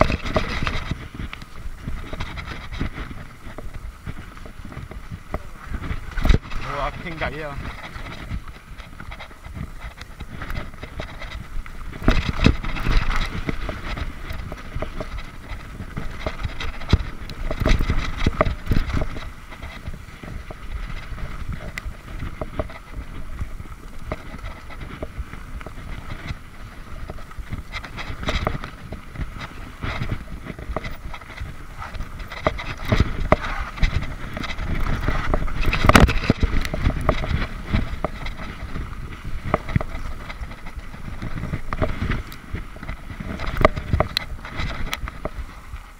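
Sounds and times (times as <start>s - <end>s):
bike frame and chain rattling: 0.0s - 45.9s
bike tyres on dirt: 0.0s - 45.9s.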